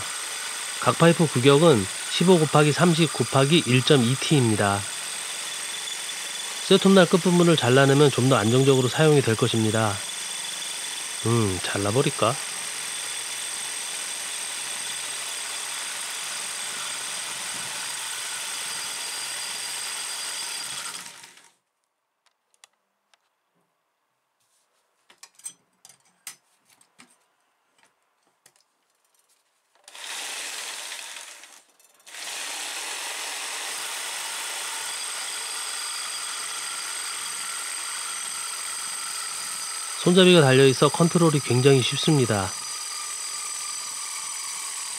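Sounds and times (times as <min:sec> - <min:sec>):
jigsaw cutting metal tube: 0:00.0 - 0:21.6, 0:29.8 - 0:44.9.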